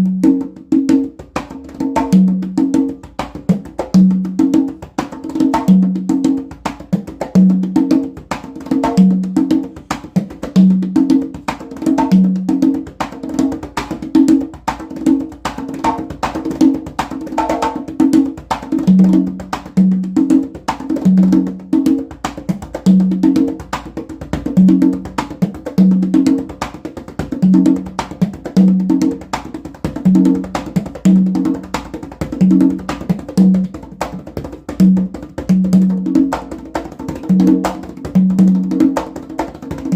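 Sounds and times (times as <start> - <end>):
congas played by hand: 0.0 - 39.9.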